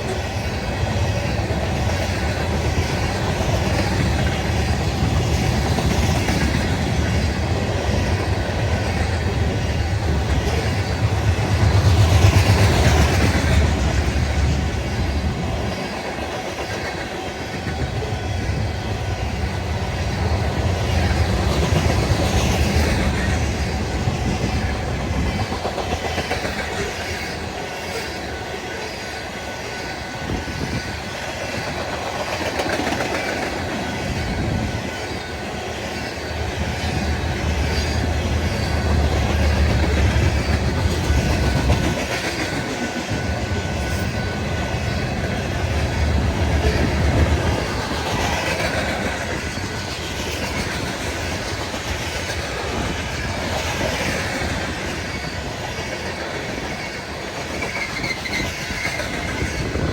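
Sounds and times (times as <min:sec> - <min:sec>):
train wheels clicking over rails: 0:00.0 - 0:59.9.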